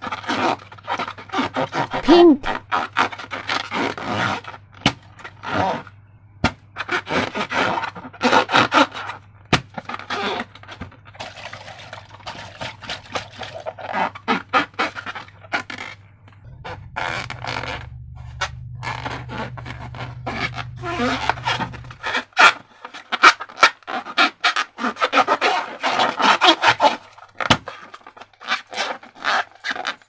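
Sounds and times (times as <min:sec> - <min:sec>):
slime squelching: 0:00.3 - 0:05.9, 0:09.8 - 0:29.8.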